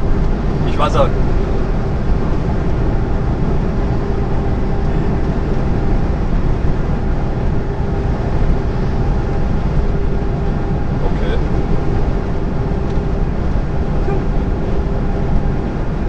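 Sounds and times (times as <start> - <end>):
lorry engine drone: 0.0 - 16.0
steady hum: 0.0 - 16.0
tyre and wind noise: 0.0 - 16.0.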